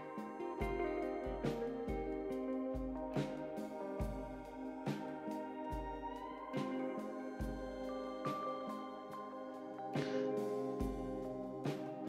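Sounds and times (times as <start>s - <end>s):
soft instrumental background music: 0.0s - 12.0s.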